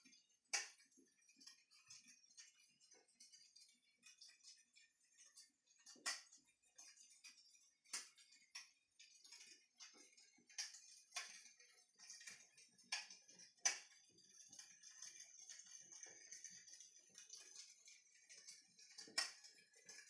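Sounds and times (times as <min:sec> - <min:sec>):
electric fireplace crackling: 0:00.0 - 0:20.0.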